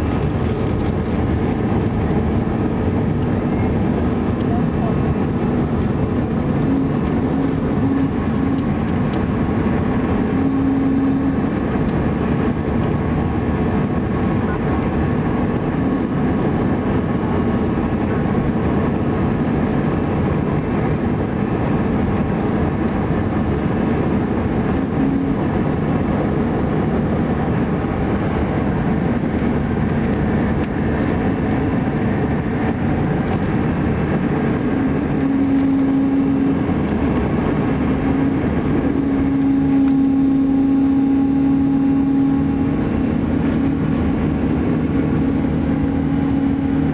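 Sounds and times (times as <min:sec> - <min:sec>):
airplane engine and airflow noise: 0:00.0 - 0:46.9
low hum: 0:00.0 - 0:46.9.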